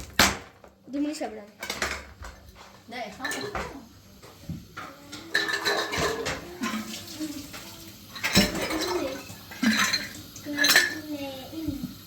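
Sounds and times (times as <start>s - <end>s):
dishes clinking at sink: 1.6s - 12.0s
water running from tap: 2.1s - 12.0s.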